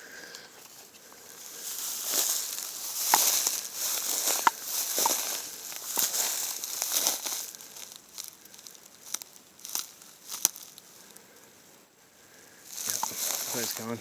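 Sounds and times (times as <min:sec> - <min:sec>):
dry rustling and crinkling: 0:00.0 - 0:14.0.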